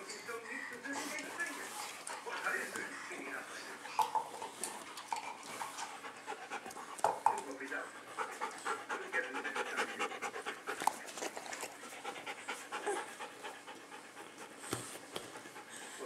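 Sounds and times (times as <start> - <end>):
dog panting: 0.2 - 16.0.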